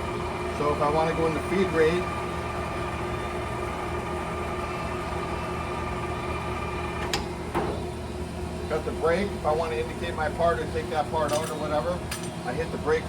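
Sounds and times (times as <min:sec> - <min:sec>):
lathe running with gear whine: 0:00.0 - 0:13.0.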